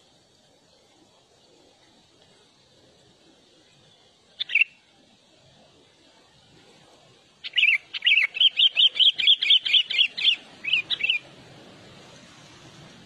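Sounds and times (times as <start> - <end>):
songbird chirping: 0.0 - 12.1.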